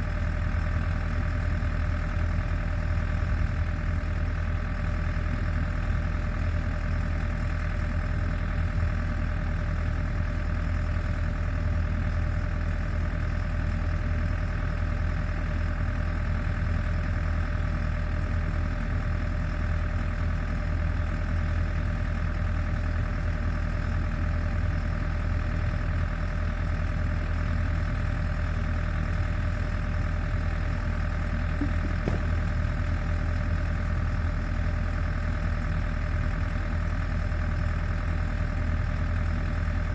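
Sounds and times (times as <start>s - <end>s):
portable generator engine running: 0.0s - 39.9s.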